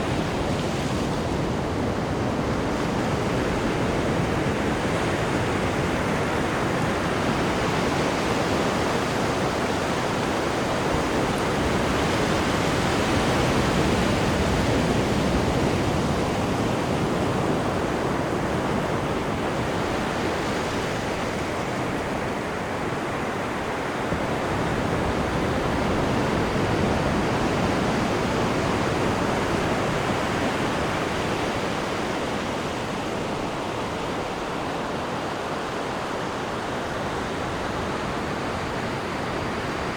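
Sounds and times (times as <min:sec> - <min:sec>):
sea water rushing behind ship: 0:00.0 - 0:39.9.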